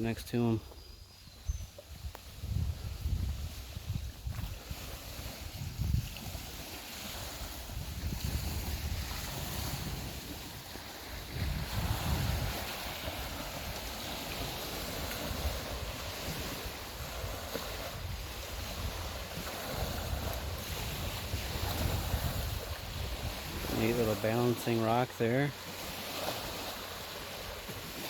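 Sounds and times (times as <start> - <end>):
wind rumbling on microphone: 0.6 - 24.8
surf on the shore: 1.8 - 28.0.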